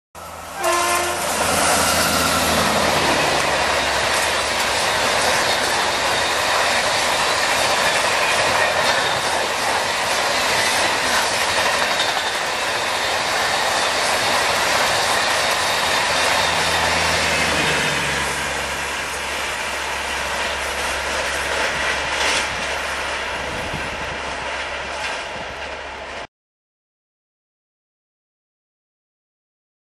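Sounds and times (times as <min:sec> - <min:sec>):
train wheels clattering on rails: 0:00.8 - 0:26.2.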